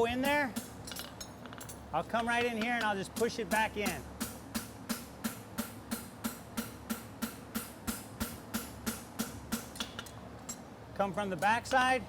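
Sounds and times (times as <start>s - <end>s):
hammer striking horseshoe on anvil: 0.0s - 10.7s.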